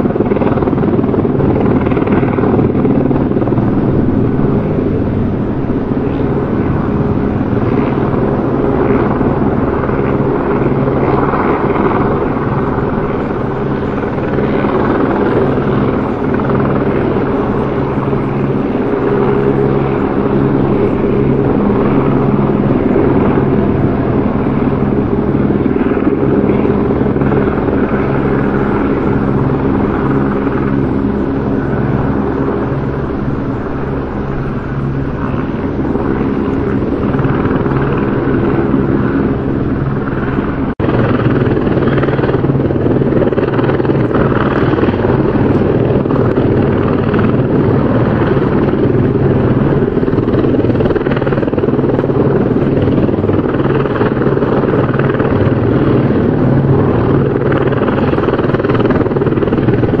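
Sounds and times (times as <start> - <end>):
helicopter rotor and engine drone: 0.0 - 60.0.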